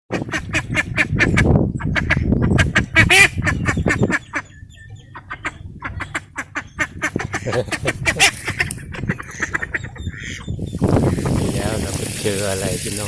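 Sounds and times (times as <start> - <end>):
waterfowl honking and quacking: 0.1 - 12.1.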